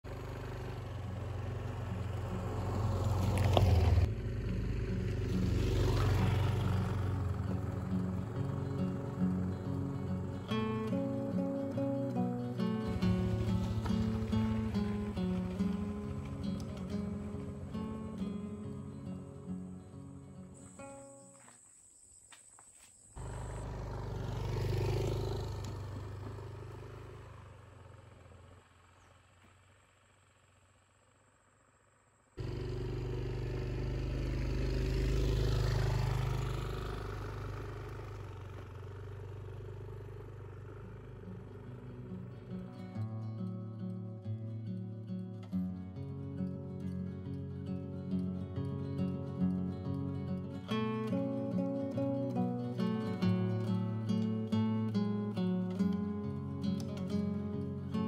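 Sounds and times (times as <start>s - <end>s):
scooter engine passing: 0.0s - 21.6s, 23.1s - 43.6s, 45.5s - 58.0s.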